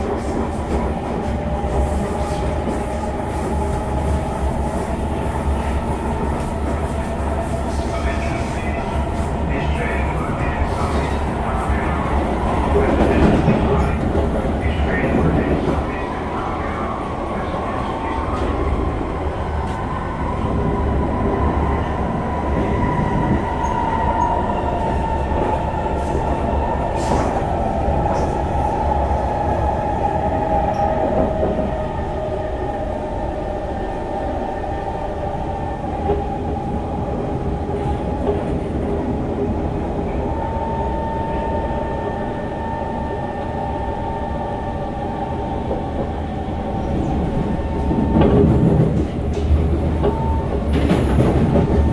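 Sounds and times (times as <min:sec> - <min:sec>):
train wheels running on track: 0:00.0 - 0:51.9.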